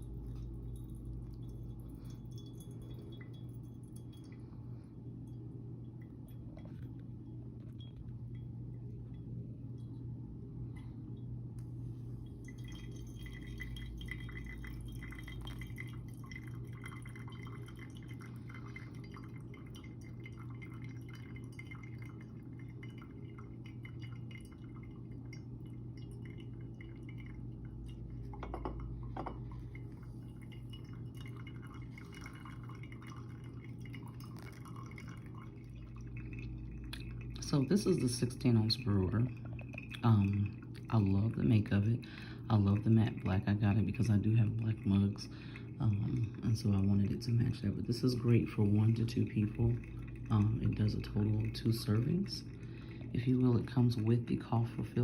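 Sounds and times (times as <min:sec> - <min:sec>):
coffee dripping: 0:00.0 - 0:55.0
steady low hum: 0:00.0 - 0:55.0.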